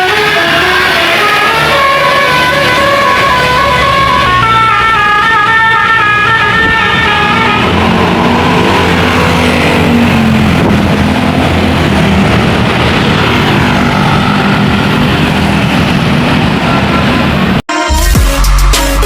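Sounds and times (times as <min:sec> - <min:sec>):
bus diesel engine running: 0:00.0 - 0:17.6
road noise: 0:00.0 - 0:17.7.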